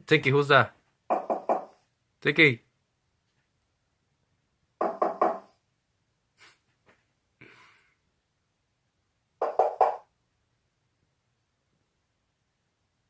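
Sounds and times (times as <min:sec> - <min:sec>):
faint small noises: 0:00.0 - 0:13.0.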